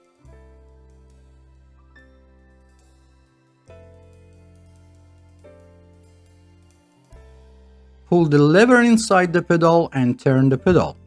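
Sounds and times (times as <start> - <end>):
background music of sustained chords: 0.0 - 11.0.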